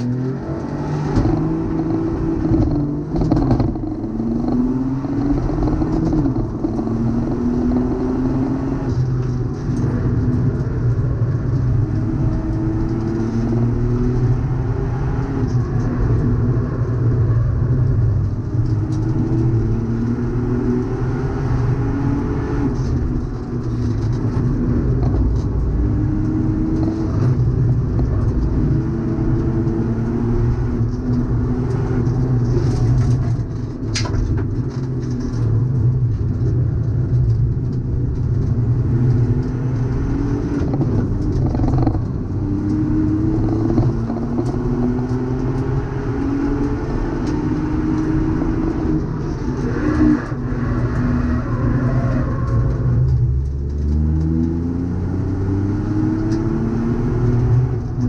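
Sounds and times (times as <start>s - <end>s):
race car engine revving through gears: 0.0s - 33.6s, 38.0s - 58.0s
road and tyre noise: 0.0s - 58.0s.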